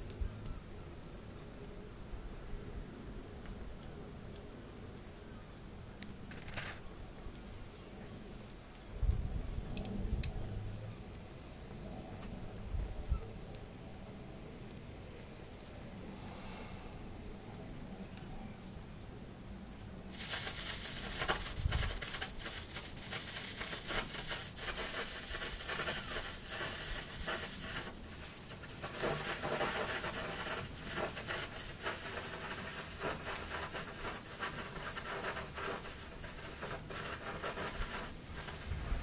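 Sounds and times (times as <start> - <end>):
flames crackling and sizzling: 0.0 - 39.0.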